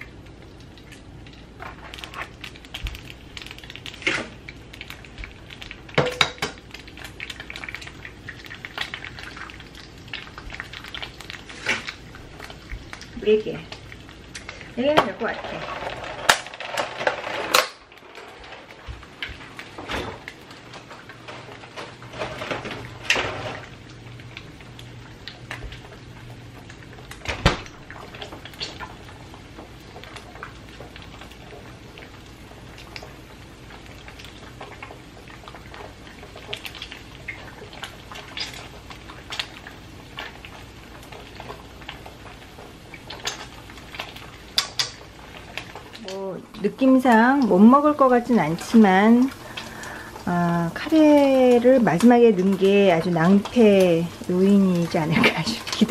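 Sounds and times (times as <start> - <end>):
eggs frying in oil: 0.0 - 55.9.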